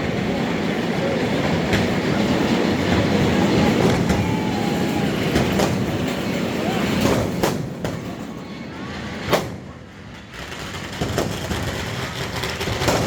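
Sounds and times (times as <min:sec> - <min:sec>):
crowd noise and voices: 0:00.0 - 0:13.0
firecrackers banging: 0:01.5 - 0:08.4, 0:09.2 - 0:13.0.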